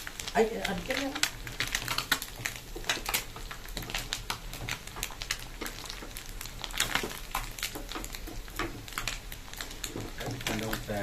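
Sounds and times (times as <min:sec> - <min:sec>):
fish deep-frying in oil: 0:00.0 - 0:11.0
oil crackling and spitting: 0:00.0 - 0:11.0.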